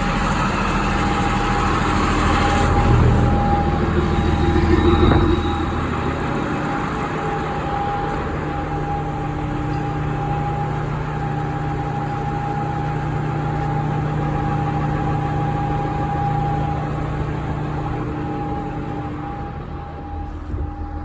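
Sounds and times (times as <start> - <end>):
diesel engine idling: 0.0 - 21.0
high whine: 0.0 - 21.0.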